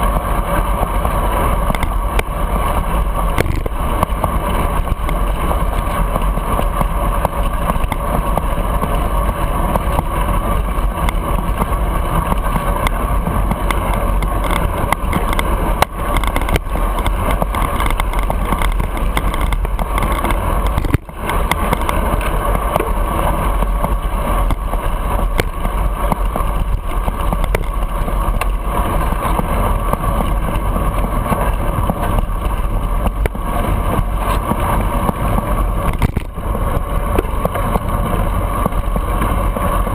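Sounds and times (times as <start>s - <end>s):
road and traffic rumble: 0.0s - 39.9s
wind buffeting microphone: 0.0s - 39.9s.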